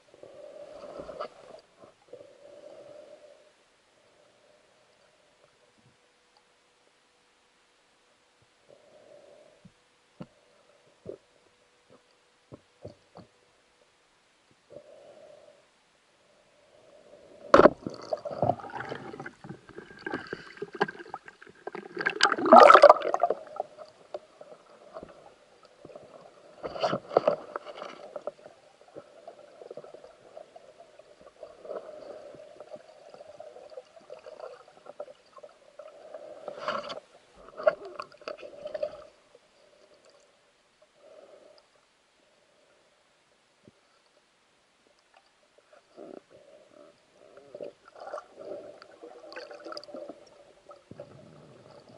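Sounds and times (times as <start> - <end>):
underwater bubbling and rustling: 0.0 - 7.0, 8.0 - 51.9.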